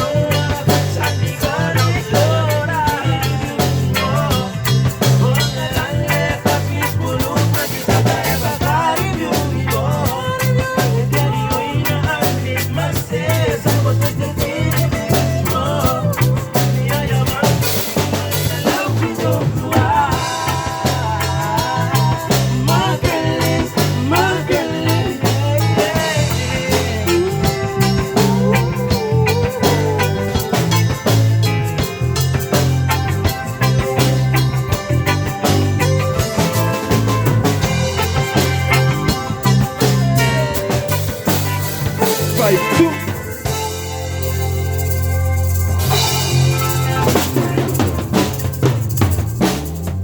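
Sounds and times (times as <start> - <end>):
drum kit: 0.0 - 50.0
live band playing: 0.0 - 50.0.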